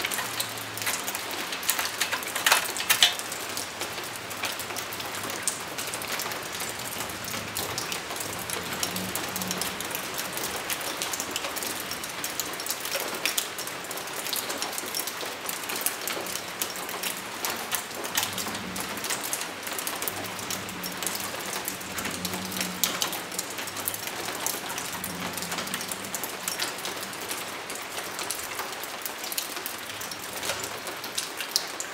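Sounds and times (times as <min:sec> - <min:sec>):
steady rain patter: 0:00.0 - 0:31.9.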